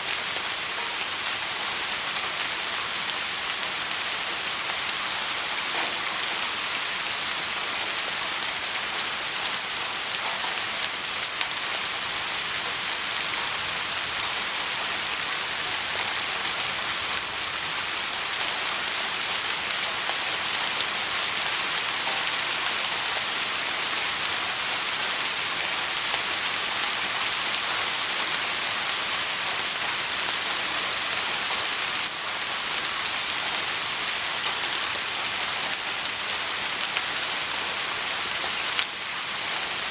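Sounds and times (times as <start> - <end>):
soft rain hissing: 0.0 - 39.9.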